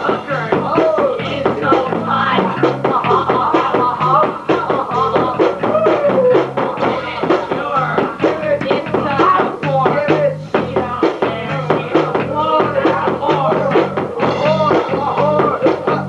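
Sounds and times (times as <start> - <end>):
rapping over a drum beat: 0.0 - 16.0.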